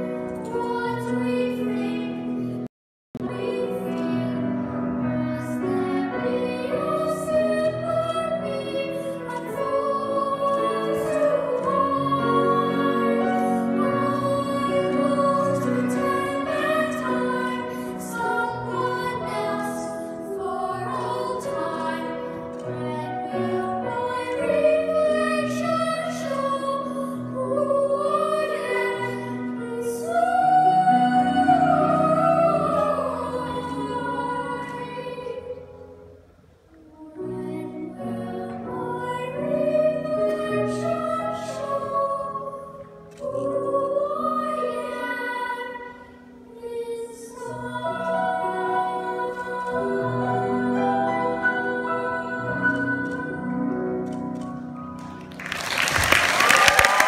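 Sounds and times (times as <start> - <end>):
girls singing together: 0.0 - 2.3, 5.4 - 35.8, 37.0 - 53.8.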